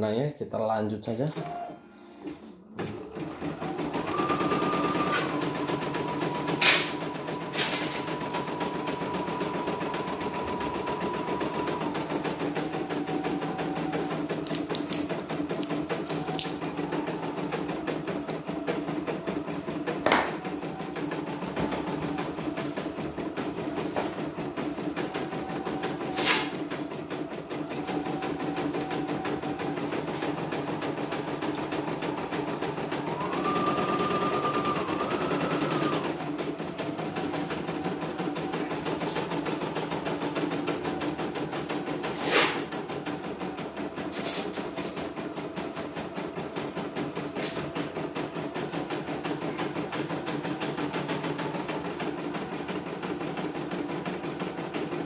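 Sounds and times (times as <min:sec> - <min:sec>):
machine whine: 0:01.4 - 0:53.2.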